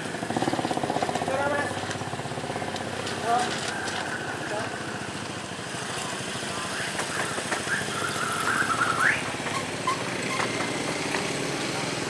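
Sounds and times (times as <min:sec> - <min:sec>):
locomotive engine running: 0:00.0 - 0:12.0.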